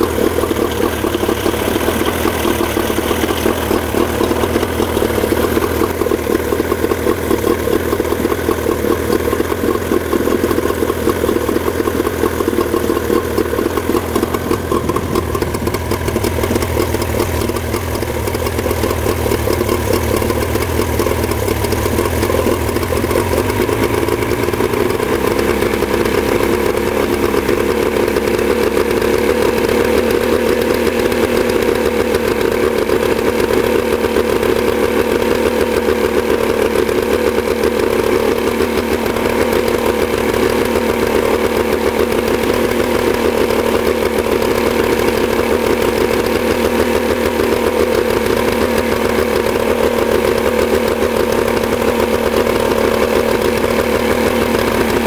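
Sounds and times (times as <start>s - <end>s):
outboard motor running: 0.0s - 55.0s
water stream pumping: 0.0s - 55.0s.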